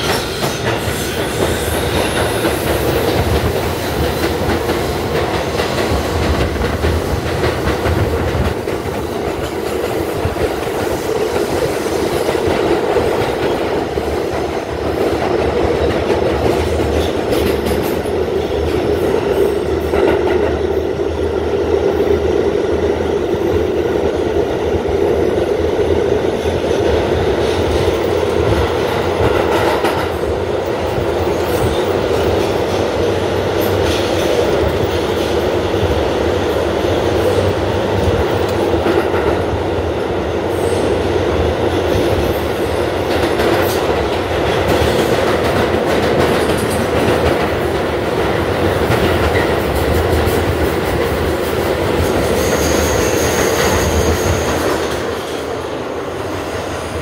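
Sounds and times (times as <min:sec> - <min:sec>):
rumble of wheels on rail: 0:00.0 - 0:57.0.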